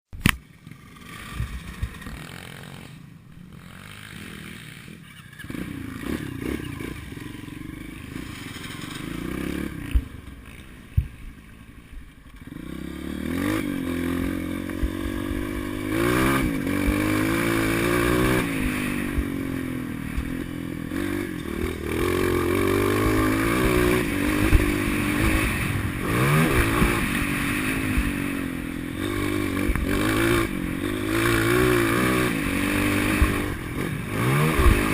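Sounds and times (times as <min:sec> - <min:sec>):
motocross engine revving: 0:00.7 - 0:11.1, 0:12.4 - 0:34.9.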